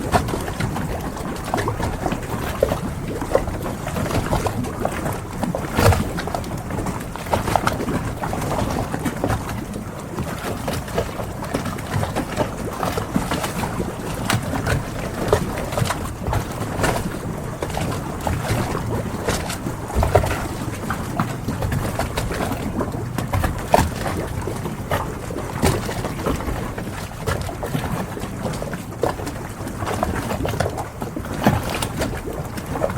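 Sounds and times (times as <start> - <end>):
water washing: 0.0 - 32.9.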